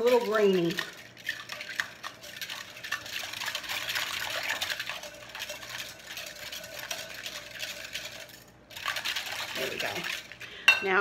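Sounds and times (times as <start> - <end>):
liquid sloshing: 0.0 - 11.0
whisk beating in glass bowl: 0.0 - 11.0.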